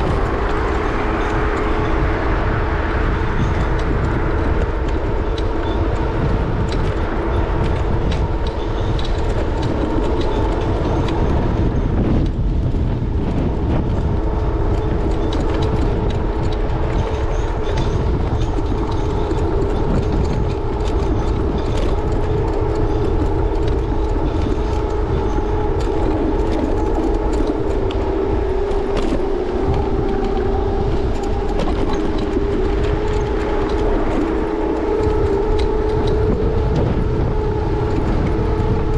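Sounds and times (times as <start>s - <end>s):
electric scooter whine: 0.0s - 38.9s
low road rumble: 0.0s - 38.9s
wind noise: 0.0s - 38.9s.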